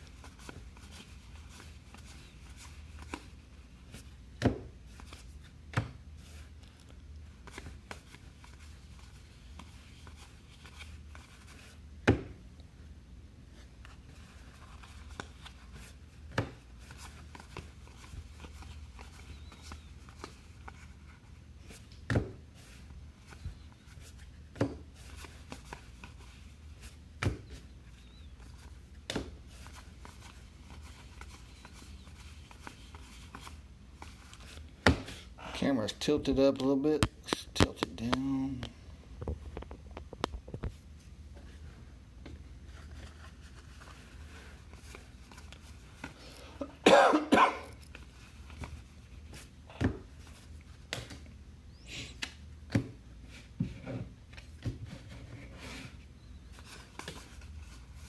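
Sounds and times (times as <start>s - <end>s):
soft rustling of cards: 0.0s - 46.8s, 47.6s - 58.0s.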